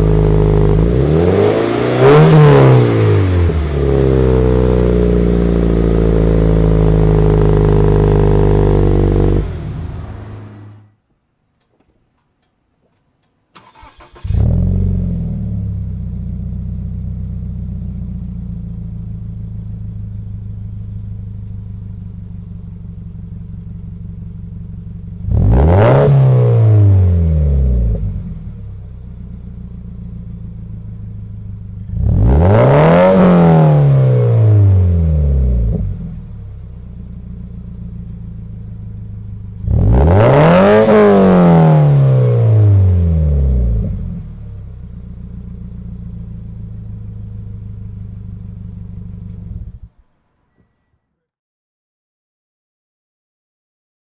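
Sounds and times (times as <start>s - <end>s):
car engine idling and revving: 0.0s - 10.9s, 13.6s - 50.3s.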